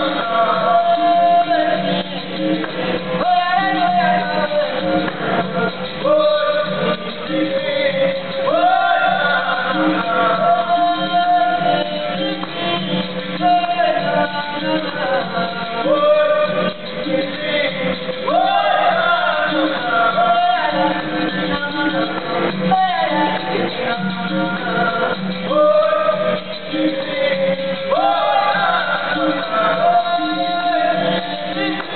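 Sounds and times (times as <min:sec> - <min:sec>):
men singing with group: 0:00.0 - 0:31.9.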